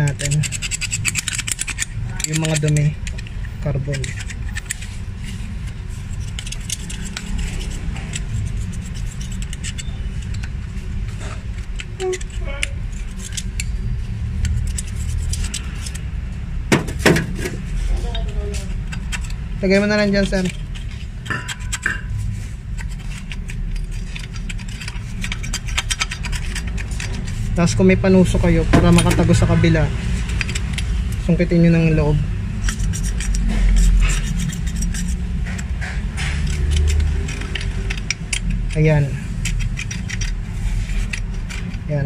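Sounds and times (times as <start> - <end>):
screwdriver scraping metal: 0.0 - 16.1, 16.9 - 42.0
low background hum: 0.0 - 42.0.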